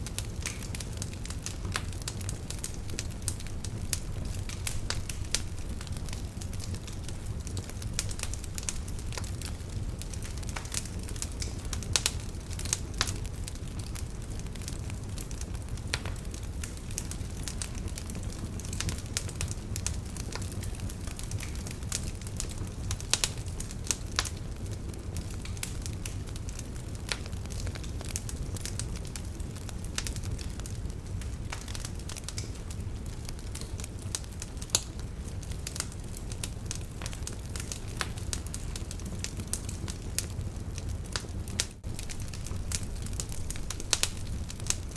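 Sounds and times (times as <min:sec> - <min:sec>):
fire rumbling: 0:00.0 - 0:44.9
logs crackling and popping: 0:00.0 - 0:44.9.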